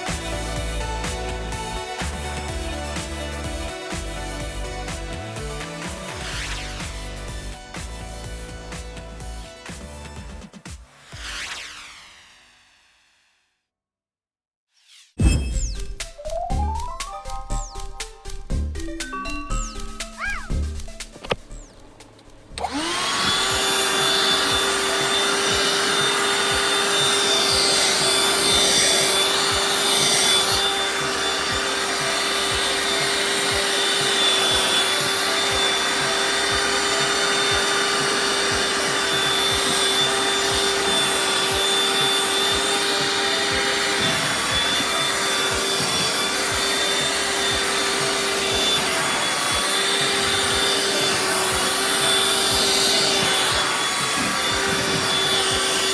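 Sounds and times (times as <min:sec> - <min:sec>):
vacuum cleaner running: 0:00.0 - 0:13.1, 0:19.1 - 0:55.9.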